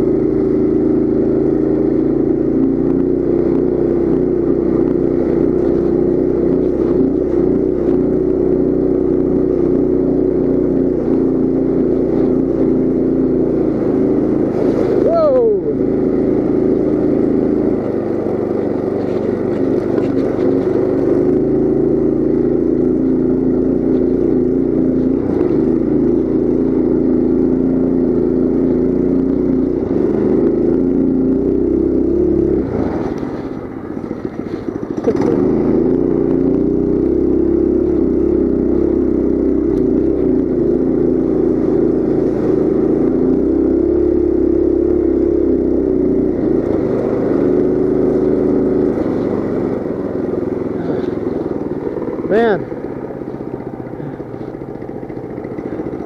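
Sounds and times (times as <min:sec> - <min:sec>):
mini bike engine running: 0:00.0 - 0:56.0.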